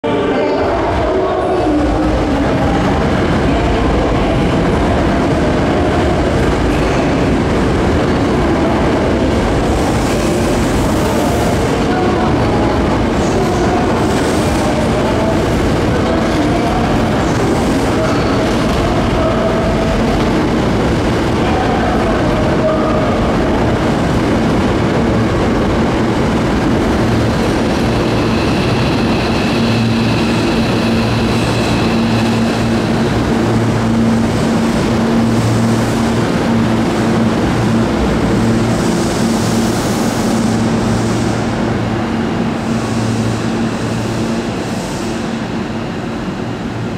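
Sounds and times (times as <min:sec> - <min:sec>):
train motors humming: 0:00.0 - 0:46.9
train wheels on rails: 0:00.9 - 0:46.9.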